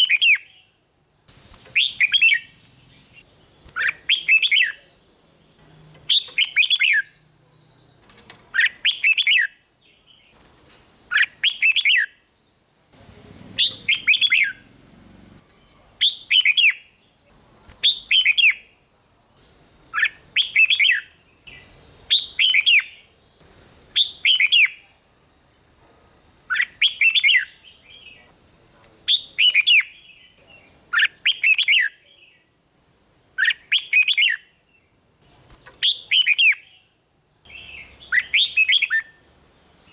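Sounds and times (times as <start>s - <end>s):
bird singing bright phrases: 0.0s - 12.2s, 13.0s - 18.7s, 19.6s - 23.1s, 23.9s - 25.2s, 26.5s - 28.3s, 29.0s - 32.6s, 35.6s - 39.9s.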